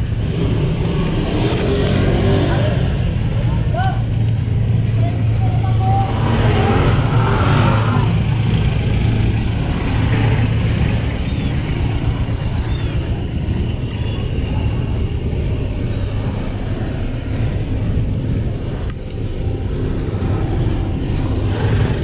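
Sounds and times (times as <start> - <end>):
bicycle ride rumbling: 0.0 - 22.0
car engines running: 0.0 - 22.0.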